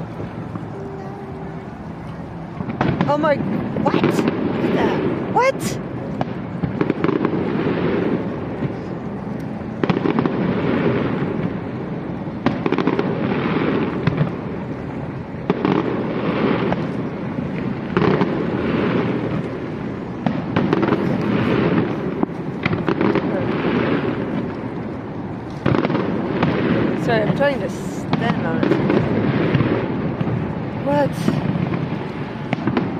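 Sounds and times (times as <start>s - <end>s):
firework crackling: 0.0s - 32.9s.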